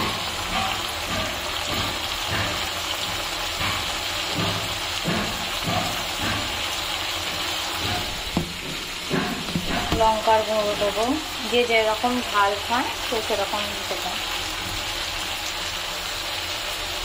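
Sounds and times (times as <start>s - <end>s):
chicken sizzling in a pot: 0.0s - 17.0s.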